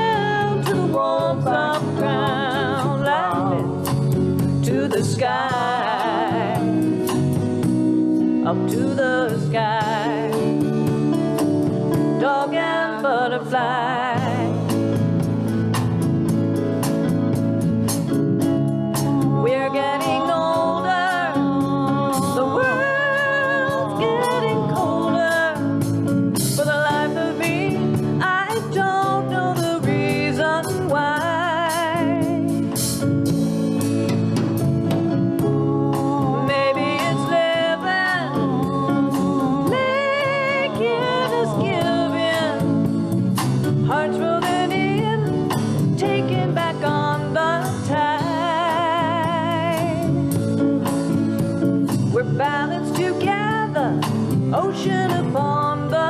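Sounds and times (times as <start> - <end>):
bass and acoustic guitars: 0.0 - 56.0
drum kit with cymbals: 0.0 - 56.0.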